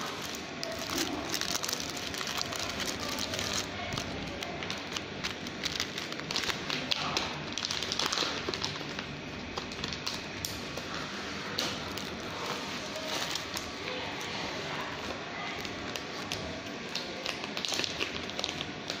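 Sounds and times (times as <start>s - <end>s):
plastic film crinkling: 0.0s - 19.0s
steady background hum: 0.0s - 19.0s.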